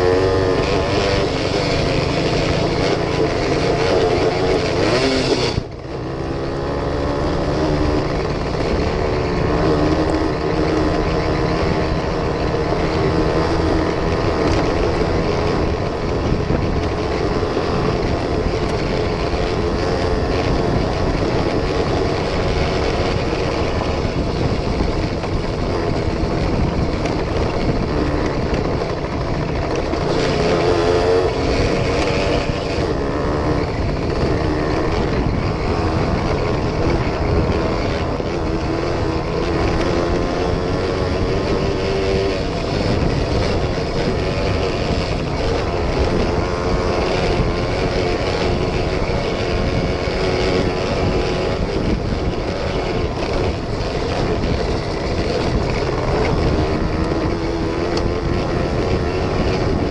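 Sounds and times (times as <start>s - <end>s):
two-stroke motorcycle engine running: 0.0s - 59.9s.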